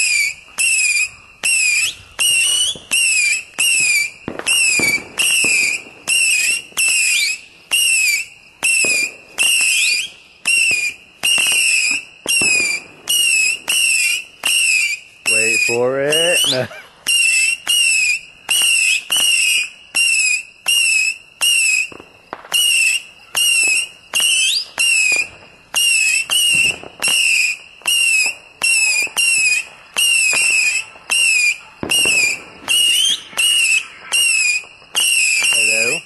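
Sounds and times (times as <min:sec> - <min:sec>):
firework whistle: 0:00.0 - 0:36.0
fireworks bangs: 0:00.0 - 0:36.0.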